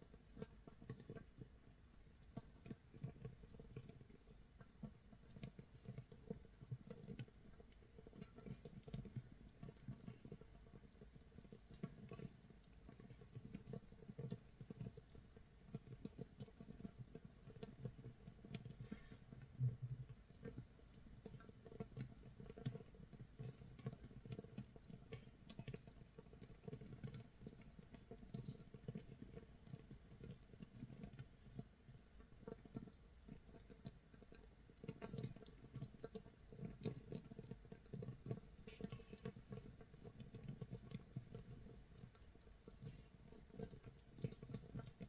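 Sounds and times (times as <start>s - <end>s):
gas bubbles crackling and popping: 0.0s - 45.0s.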